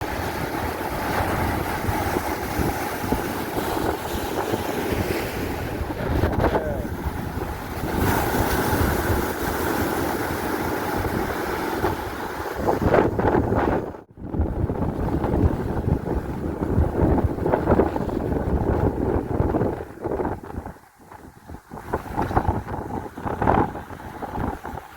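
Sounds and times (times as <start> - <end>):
rush of wind and water: 0.0 - 24.9
wind buffeting microphone: 0.0 - 24.9.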